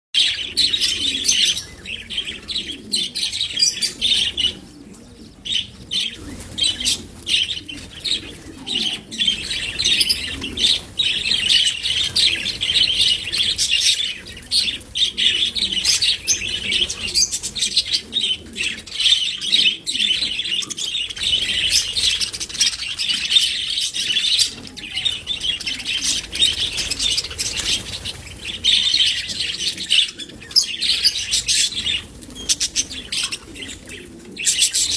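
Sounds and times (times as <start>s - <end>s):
budgerigars chattering: 0.2s - 4.6s, 5.3s - 34.9s.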